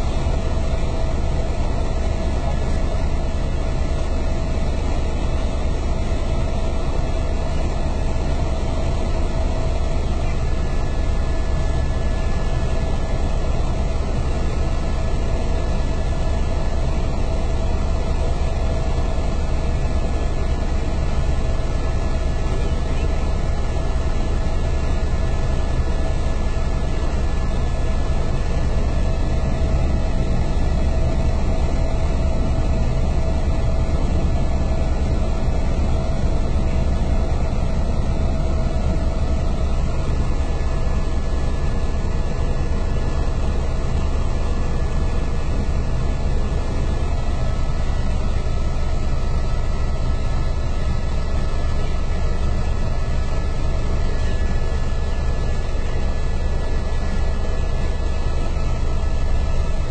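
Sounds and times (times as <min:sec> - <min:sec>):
helicopter rotor and engine drone: 0:00.0 - 0:59.9.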